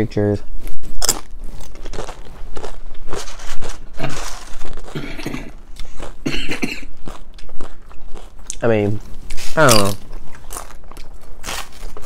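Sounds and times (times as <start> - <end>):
chewing crisp chips: 0.9 - 12.0.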